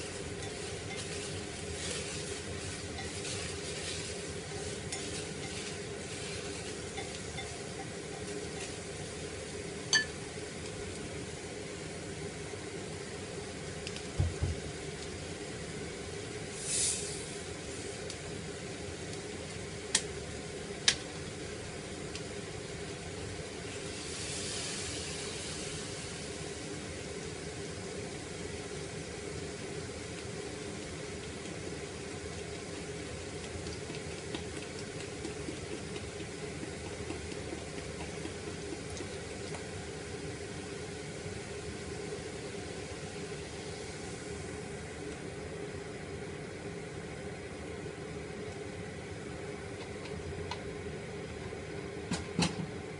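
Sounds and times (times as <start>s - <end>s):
pot boiling over gas flame: 0.0s - 52.9s.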